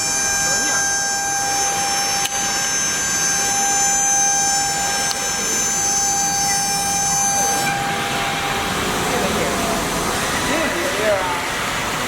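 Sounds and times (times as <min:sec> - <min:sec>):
router spindle high whine: 0:00.0 - 0:12.0
rushing cutting noise: 0:00.0 - 0:12.0.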